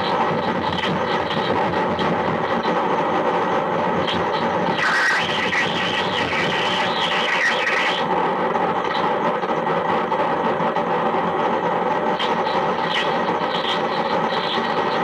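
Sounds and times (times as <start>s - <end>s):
dense noise music: 0.0s - 15.0s.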